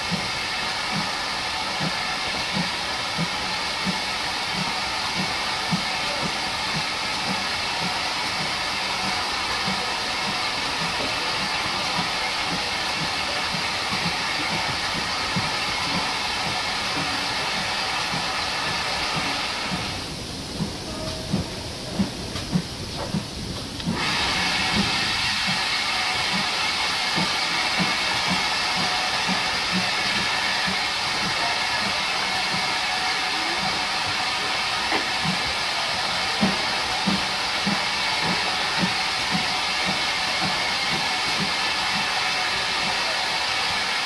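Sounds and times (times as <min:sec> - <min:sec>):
steam hissing from locomotive: 0:00.0 - 0:44.0.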